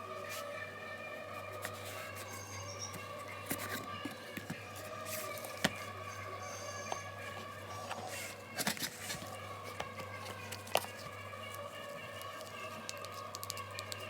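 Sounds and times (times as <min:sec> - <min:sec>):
background music or hum: 0:00.0 - 0:14.0.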